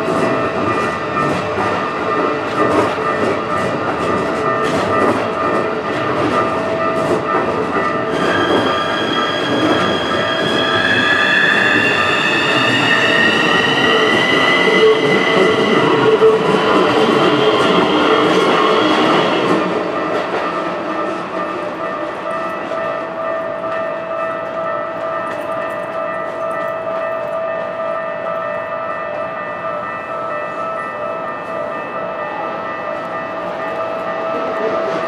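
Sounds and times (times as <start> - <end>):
crossing bell ringing: 0.0 - 35.0
train wheels on rails: 0.0 - 35.0.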